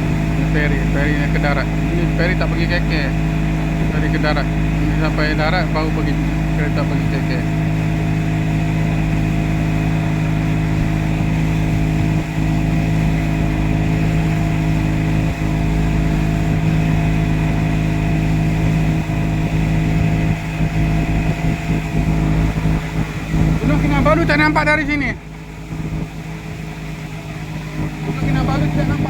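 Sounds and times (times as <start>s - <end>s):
boat engine drone: 0.0s - 29.0s
low rumble of wind and water: 0.0s - 29.0s.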